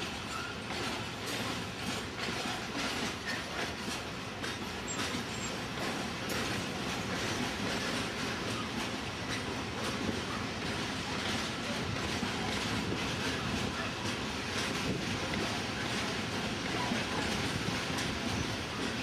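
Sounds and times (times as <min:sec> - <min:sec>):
train rumbling past: 0:00.0 - 0:19.0
wheels clacking on rails: 0:00.0 - 0:19.0.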